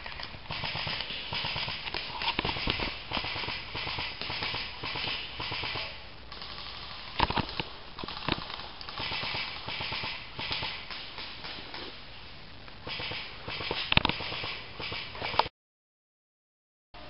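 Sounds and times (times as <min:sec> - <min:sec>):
sharp clicks: 0:00.0 - 0:11.9, 0:12.7 - 0:15.5.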